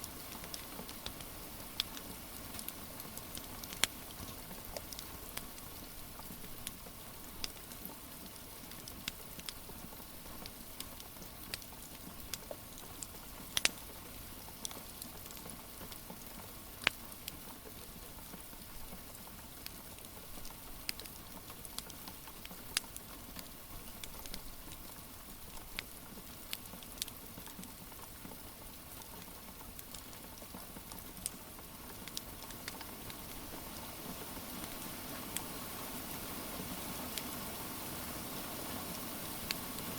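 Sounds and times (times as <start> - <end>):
rain hiss: 0.0 - 39.9
wood fire crackling: 0.0 - 39.9.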